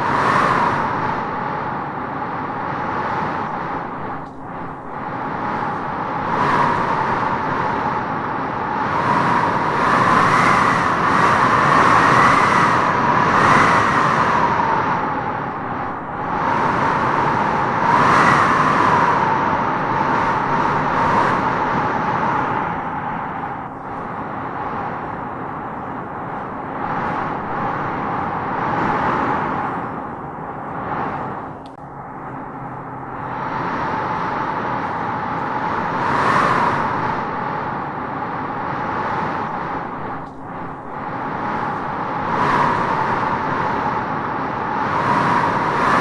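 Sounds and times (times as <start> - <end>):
gusty wind howling: 0.0 - 46.0.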